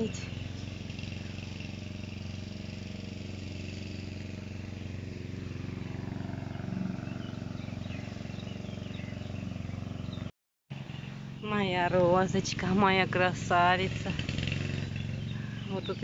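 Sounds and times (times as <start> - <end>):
motor engine humming: 0.0 - 16.0.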